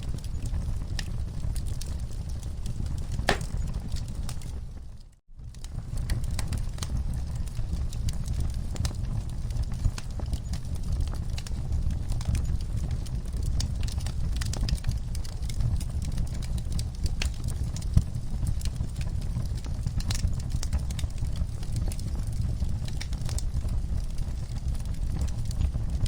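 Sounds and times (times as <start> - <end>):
wood fire crackling and popping: 0.1 - 4.6, 5.5 - 26.0.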